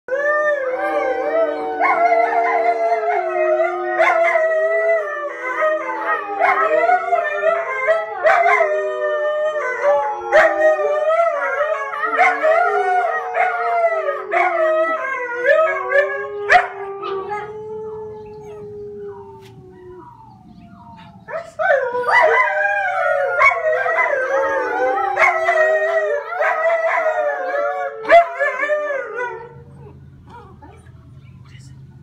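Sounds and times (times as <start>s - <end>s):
puppies howling: 0.1s - 31.4s.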